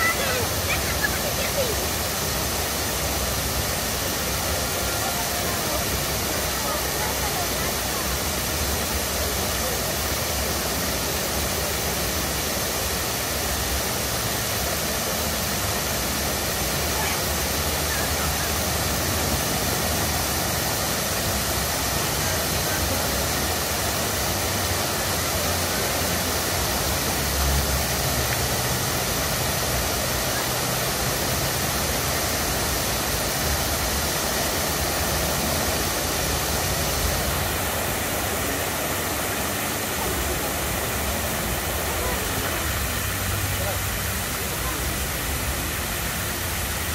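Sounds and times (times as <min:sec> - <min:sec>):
fountain water splashing: 0:00.0 - 0:46.9.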